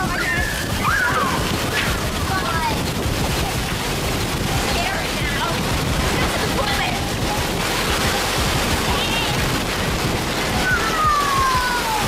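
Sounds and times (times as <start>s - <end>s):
storm wind and heavy rain: 0.0s - 12.0s.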